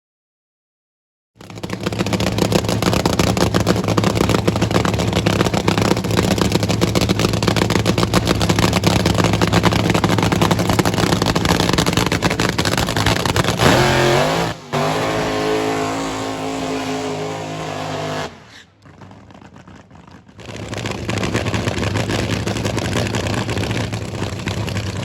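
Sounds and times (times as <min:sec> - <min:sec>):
loud lumpy engine idling and revving: 0:01.4 - 0:25.0.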